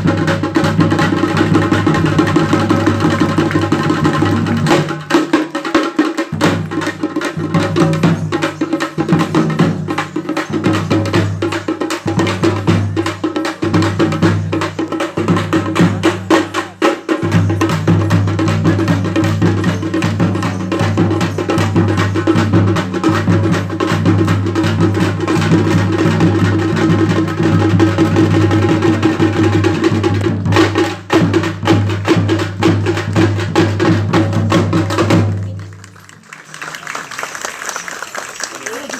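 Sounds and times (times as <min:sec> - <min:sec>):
fast drum strikes: 0:00.0 - 0:35.6.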